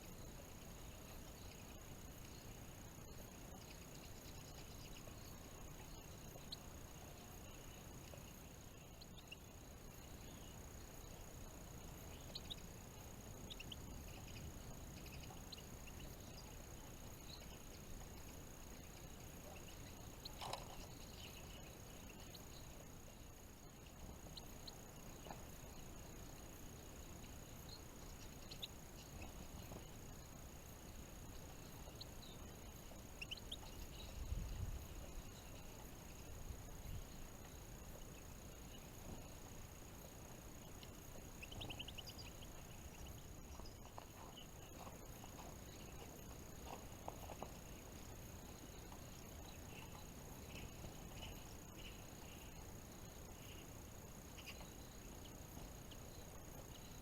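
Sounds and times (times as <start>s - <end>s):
finches chirping: 0.0s - 57.0s
low background hiss: 0.0s - 57.0s.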